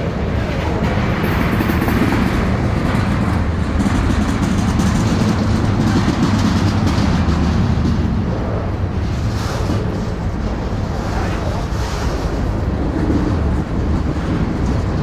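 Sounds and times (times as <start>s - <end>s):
train passing with low rumble: 0.0s - 15.0s.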